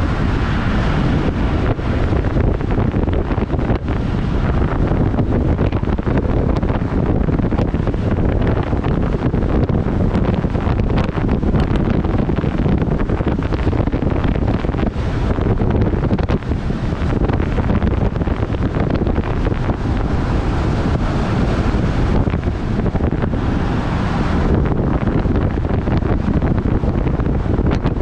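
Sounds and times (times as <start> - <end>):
vehicle and road noise: 0.0 - 28.0
wind buffeting microphone: 0.0 - 28.0.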